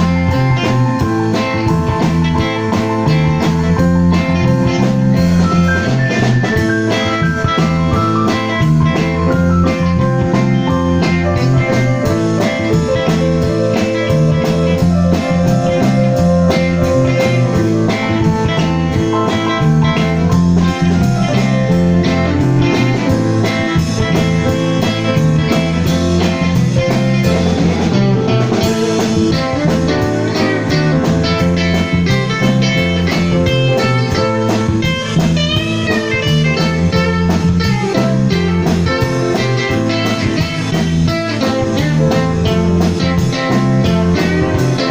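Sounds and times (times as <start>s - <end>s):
blues guitar music: 0.0s - 44.9s.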